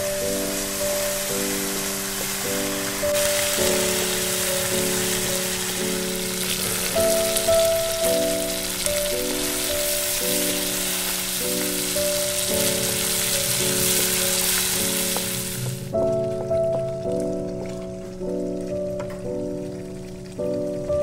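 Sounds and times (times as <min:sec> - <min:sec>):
curry sizzling in a pan: 0:00.0 - 0:17.6
soft background music: 0:00.0 - 0:21.0.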